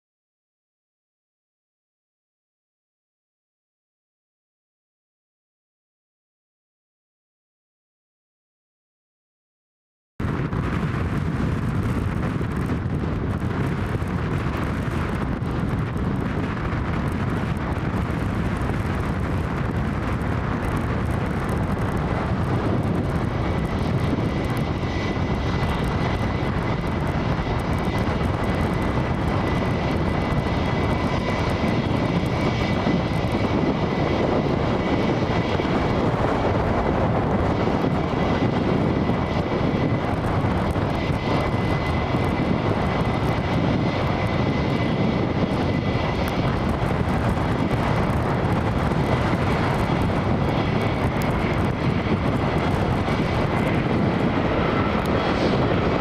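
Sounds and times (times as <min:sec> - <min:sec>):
jet airliner engines rushing: 0:10.2 - 0:56.0
wind on microphone: 0:10.2 - 0:56.0.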